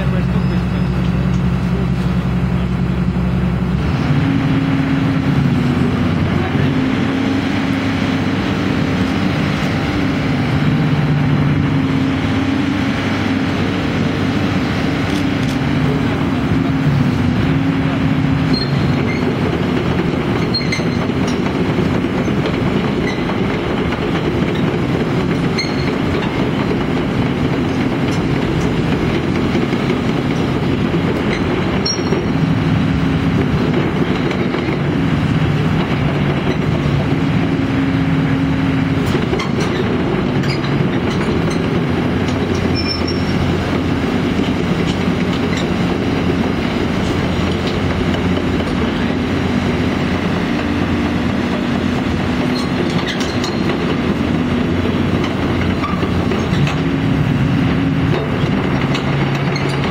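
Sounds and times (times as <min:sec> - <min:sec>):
excavator engine and hydraulic drone: 0:00.0 - 0:59.9
metallic clanks from steel tracks: 0:00.0 - 0:59.9.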